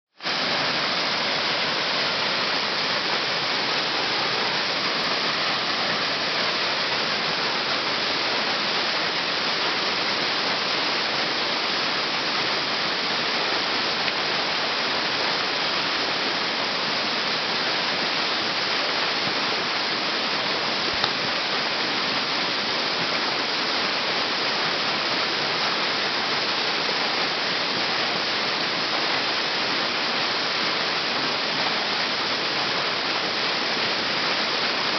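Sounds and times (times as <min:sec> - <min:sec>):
waterfall rushing onto rocks: 0:00.1 - 0:34.9.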